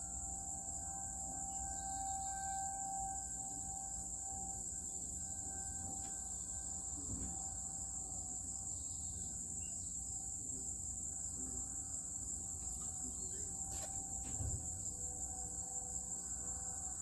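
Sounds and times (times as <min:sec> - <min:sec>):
faint pitched hum: 0:00.0 - 0:17.0
high-pitched hiss: 0:00.0 - 0:17.0.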